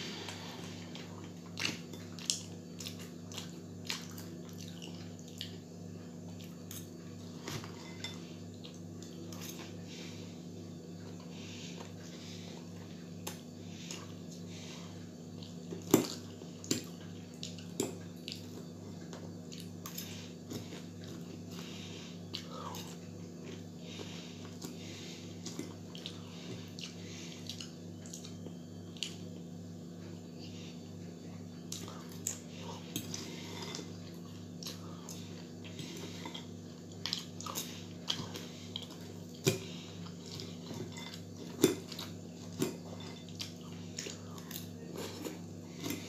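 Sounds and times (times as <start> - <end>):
man chewing: 0.0 - 10.2, 10.9 - 30.5, 31.6 - 46.0
steady low hum: 0.0 - 46.0.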